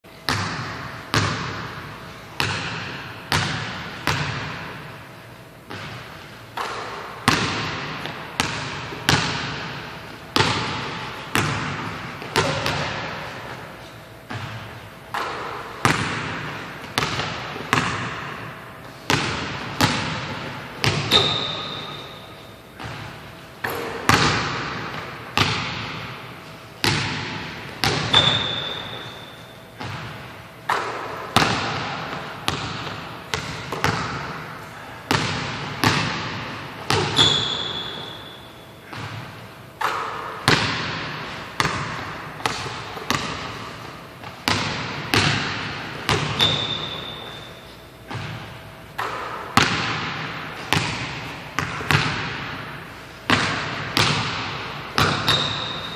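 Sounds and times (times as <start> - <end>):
sneakers squeaking: 0.2 - 55.9
basketball bouncing on hardwood floor: 0.3 - 1.8, 2.4 - 4.8, 6.6 - 13.2, 14.3 - 18.4, 19.1 - 22.2, 22.8 - 26.2, 26.8 - 34.5, 35.1 - 43.6, 44.4 - 47.4, 48.1 - 52.6, 53.3 - 55.9.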